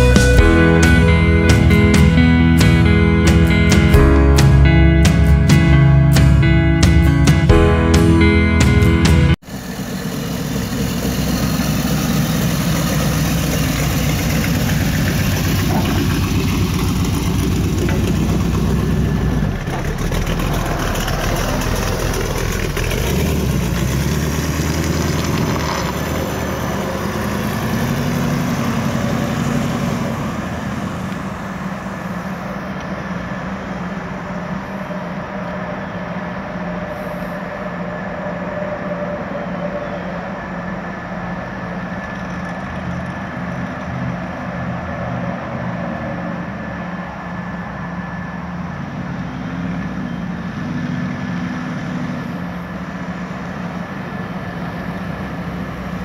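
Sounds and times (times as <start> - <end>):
hot rod engine accelerating: 0.0 - 56.0.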